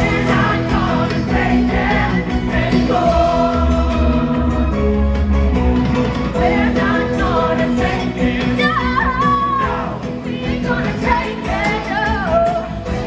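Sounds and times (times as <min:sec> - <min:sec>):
singers singing melody: 0:00.0 - 0:05.2, 0:06.3 - 0:13.0
live rock band playing: 0:00.0 - 0:13.0.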